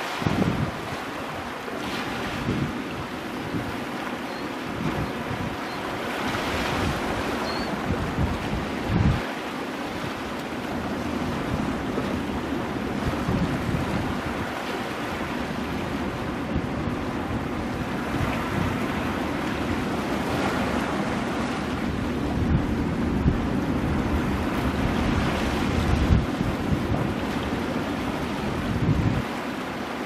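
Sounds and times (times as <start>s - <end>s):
waves breaking over rocks: 0.0s - 30.0s
wind buffeting microphone: 0.0s - 30.0s.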